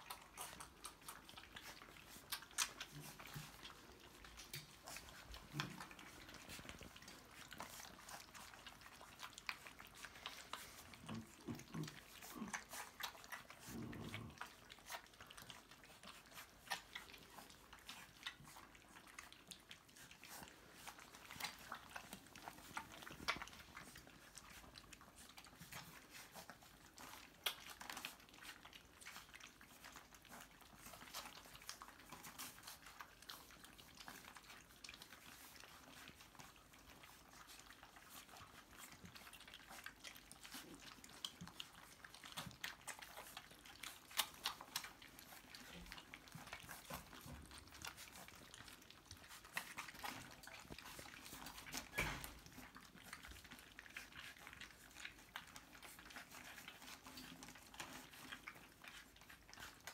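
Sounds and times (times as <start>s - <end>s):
puppies chewing and lapping: 0.0s - 59.9s
small clicks and smacks: 0.0s - 59.9s.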